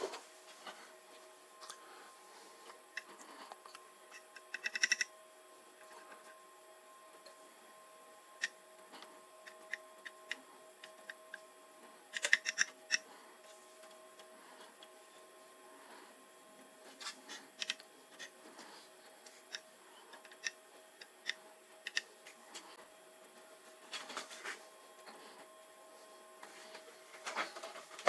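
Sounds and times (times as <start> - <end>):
faint steady tones: 0.0 - 27.8.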